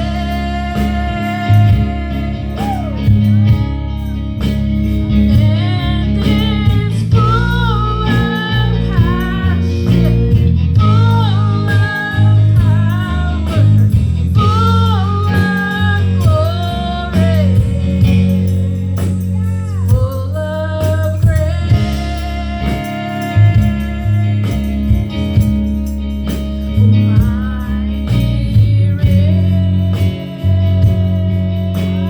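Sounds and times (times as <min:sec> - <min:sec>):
lead vocal singing: 0:00.0 - 0:04.0, 0:05.4 - 0:25.6, 0:26.8 - 0:32.0
guitar bass and drums: 0:00.0 - 0:32.0.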